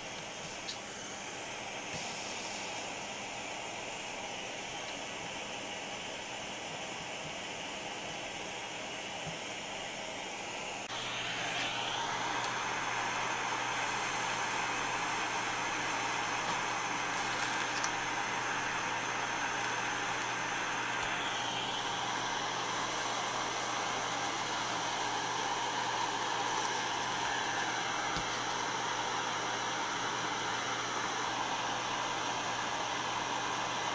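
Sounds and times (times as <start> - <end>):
soldering iron hissing: 0.0 - 33.9.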